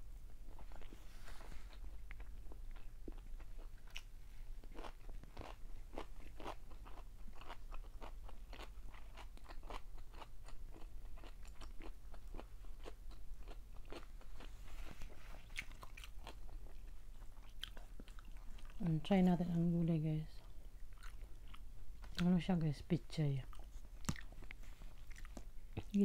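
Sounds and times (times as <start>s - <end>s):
crisp crunches of chewing: 0.5s - 18.8s, 23.5s - 26.0s.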